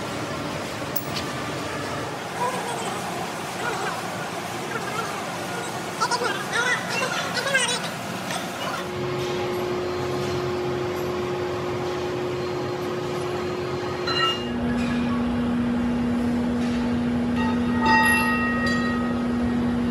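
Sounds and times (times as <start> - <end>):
workshop machinery humming: 0.0 - 19.9.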